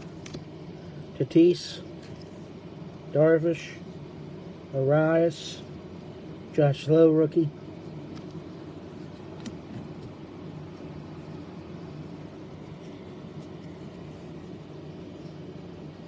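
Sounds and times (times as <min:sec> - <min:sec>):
room tone hum and hiss: 0:00.0 - 0:16.0.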